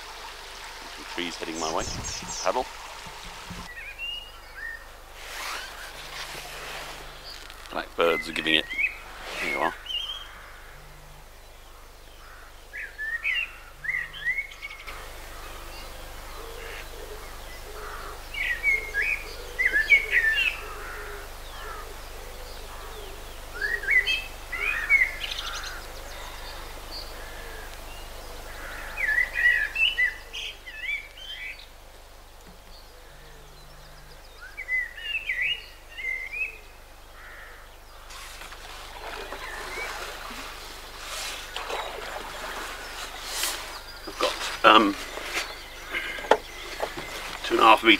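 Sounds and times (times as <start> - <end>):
blackbird singing: 0.8 - 4.8, 7.2 - 10.6, 11.6 - 31.7, 32.7 - 38.0, 41.2 - 47.9.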